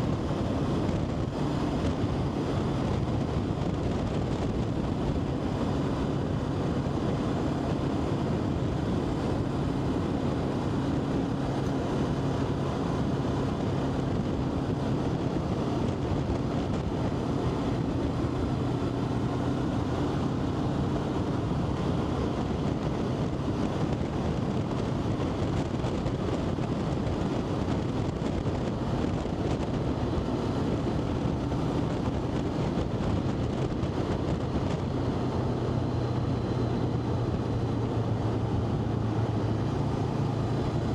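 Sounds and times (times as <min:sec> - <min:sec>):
road rumble: 0:00.0 - 0:40.9
vehicle engine hum: 0:00.0 - 0:40.9.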